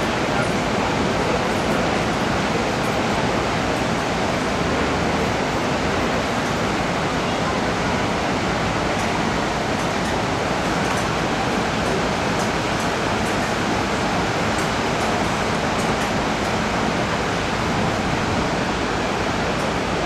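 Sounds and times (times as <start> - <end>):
river rapids roaring: 0.0 - 20.0.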